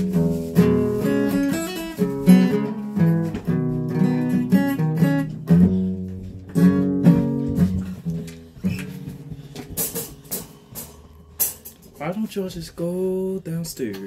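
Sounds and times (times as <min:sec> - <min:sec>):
guitar chords and notes: 0:00.0 - 0:12.0.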